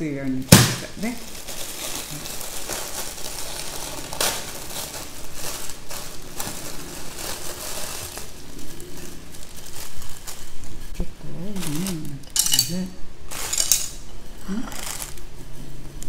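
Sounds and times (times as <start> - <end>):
plastic bag crinkling: 0.5 - 15.4
dry noodles crackling: 0.5 - 16.0.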